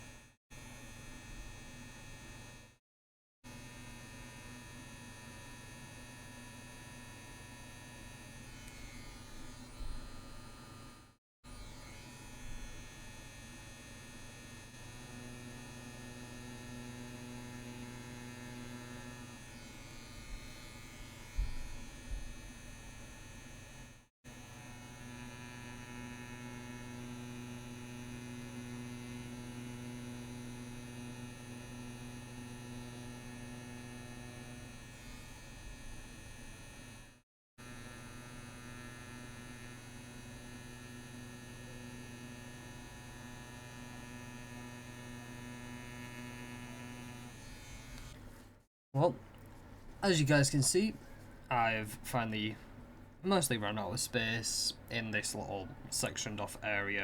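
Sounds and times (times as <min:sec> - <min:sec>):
tattoo machine humming: 0:00.0 - 0:02.8, 0:03.5 - 0:48.3.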